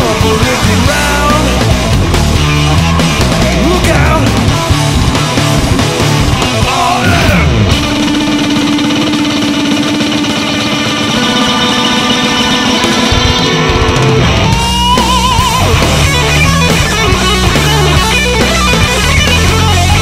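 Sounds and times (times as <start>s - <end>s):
hard rock electric guitar: 0.0s - 20.0s.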